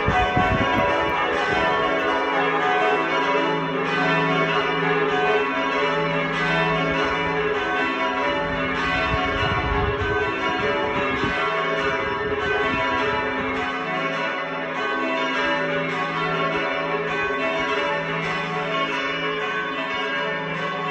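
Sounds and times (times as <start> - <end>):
church bells ringing: 0.0 - 20.9.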